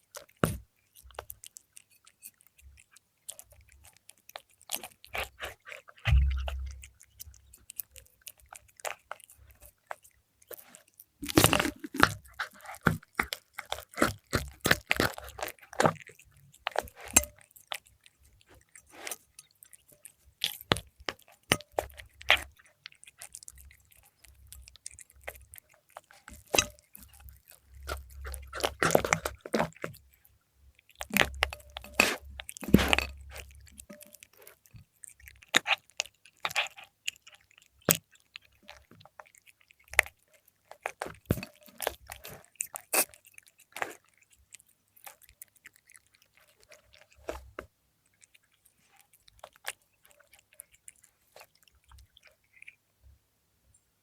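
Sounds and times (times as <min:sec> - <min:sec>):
cat chewing crunchy food: 0:00.0 - 0:53.2.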